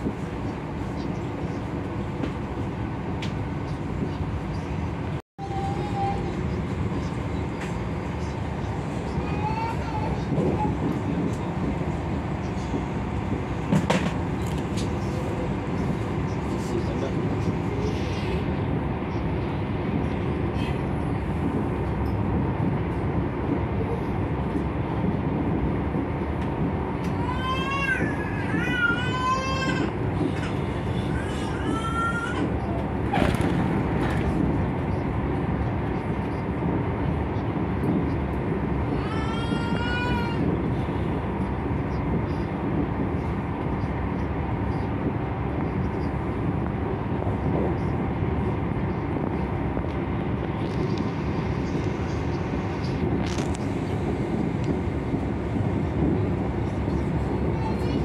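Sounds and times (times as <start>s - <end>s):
train rumbling inside carriage: 0.0s - 58.0s.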